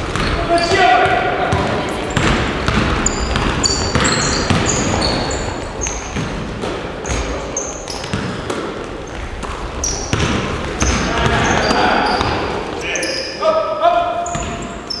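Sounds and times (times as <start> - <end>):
basketballs bouncing on court: 0.0 - 12.8, 14.2 - 15.0
sneakers squeaking on floor: 0.0 - 15.0.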